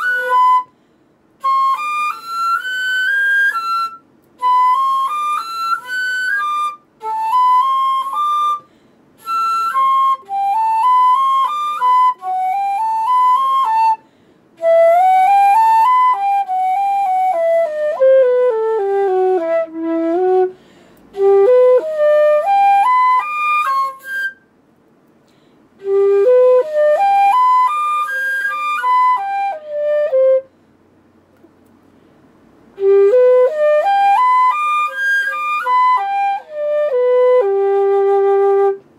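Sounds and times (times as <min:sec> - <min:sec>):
flute playing melody: 0:00.0 - 0:24.5, 0:25.8 - 0:30.6, 0:32.7 - 0:38.9.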